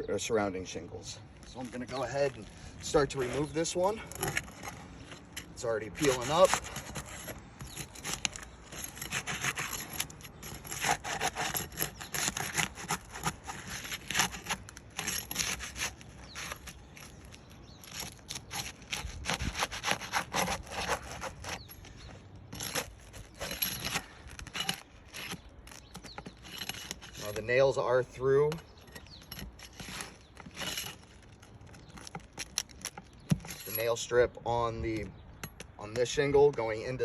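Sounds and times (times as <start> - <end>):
roof shingle scraping: 0.6 - 34.1.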